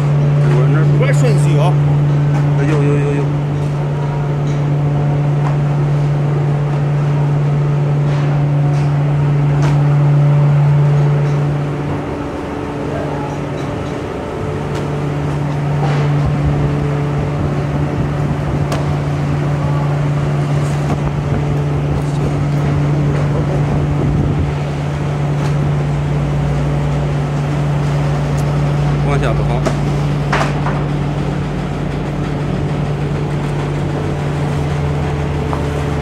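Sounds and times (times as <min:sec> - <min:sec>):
dryer and fans humming: 0:00.0 - 0:36.0.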